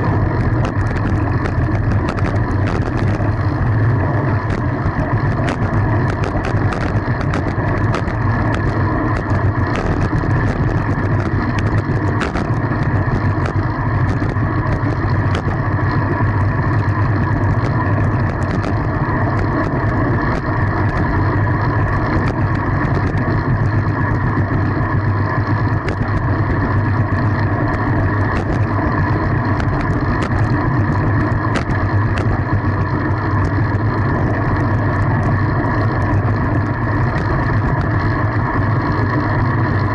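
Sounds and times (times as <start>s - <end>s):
road rumble: 0.0s - 39.9s
wind rushing on microphone: 0.0s - 39.9s.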